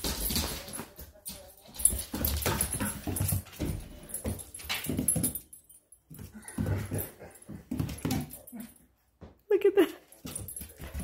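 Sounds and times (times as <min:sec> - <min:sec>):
paws scrambling on wood floor: 0:00.0 - 0:11.0.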